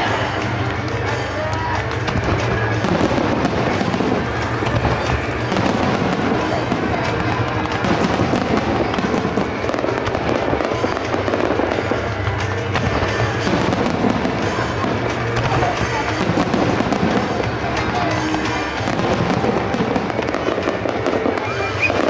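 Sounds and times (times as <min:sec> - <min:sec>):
firework bursts and crackling: 0:00.0 - 0:22.0
piano music over speakers: 0:00.0 - 0:22.0.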